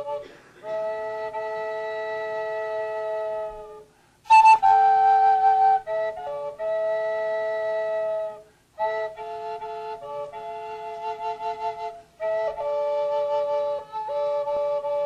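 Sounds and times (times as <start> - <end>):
solo flute playing: 0.0 - 15.0.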